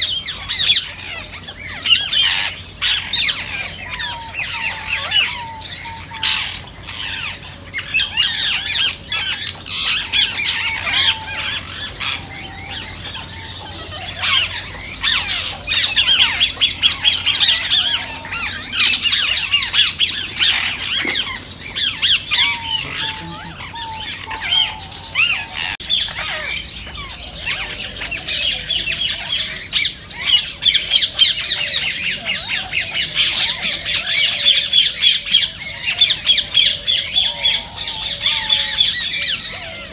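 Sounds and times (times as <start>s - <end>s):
parakeet flock chattering: 0.0s - 39.9s.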